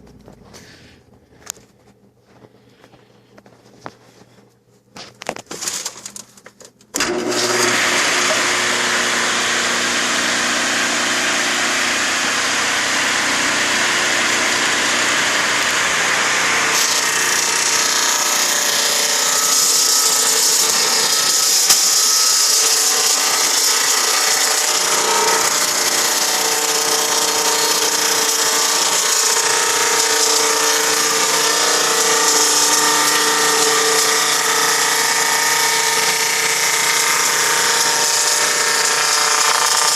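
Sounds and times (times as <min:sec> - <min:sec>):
sawmill machinery running: 0:07.0 - 0:39.9.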